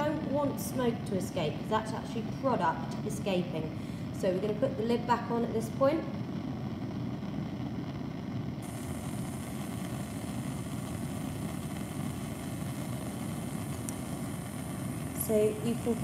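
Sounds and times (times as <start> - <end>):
bunsen burner flame rushing: 0.0 - 16.0.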